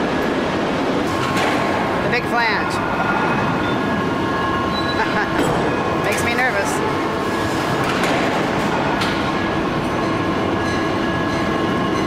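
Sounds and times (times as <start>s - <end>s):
steady tonal whine: 0.0s - 12.0s.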